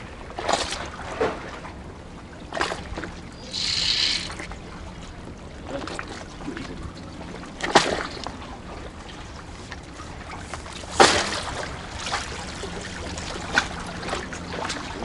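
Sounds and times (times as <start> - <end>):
seawater lapping on concrete: 0.0 - 15.0.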